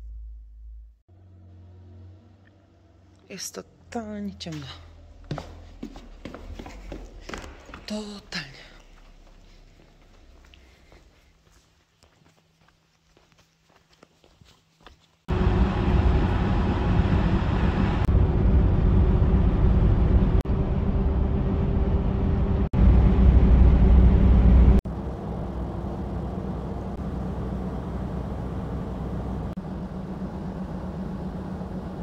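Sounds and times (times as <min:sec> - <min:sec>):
truck engine drone: 0:00.0 - 0:11.0, 0:15.3 - 0:32.0
road noise: 0:01.1 - 0:12.6, 0:15.3 - 0:32.0.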